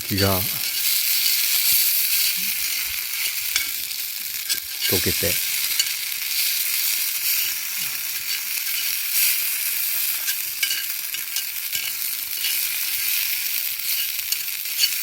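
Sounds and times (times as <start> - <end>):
food sizzling: 0.0 - 15.0
wood fire crackling: 0.0 - 15.0.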